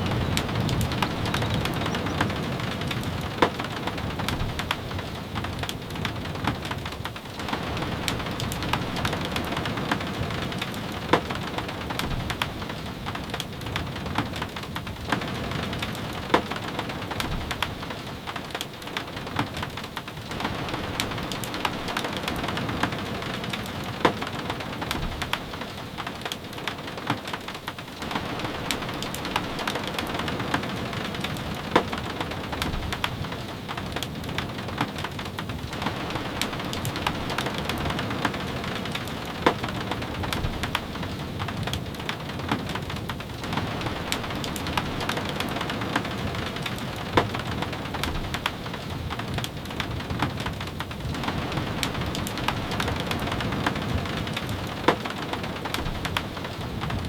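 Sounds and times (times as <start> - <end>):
rain on a wooden cabin: 0.0 - 57.0
rain tapping on windows: 0.0 - 57.0.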